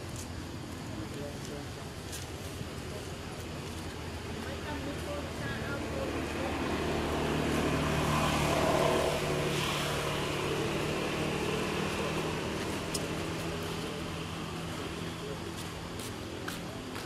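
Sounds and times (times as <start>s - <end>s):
engine humming: 2.6s - 17.0s.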